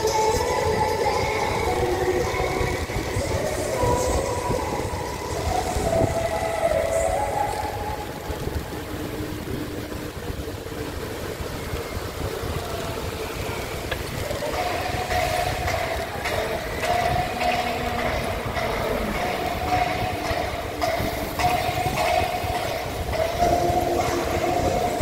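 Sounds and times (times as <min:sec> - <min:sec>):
traffic rumble: 0:00.0 - 0:25.0
wind noise on microphone: 0:00.0 - 0:25.0.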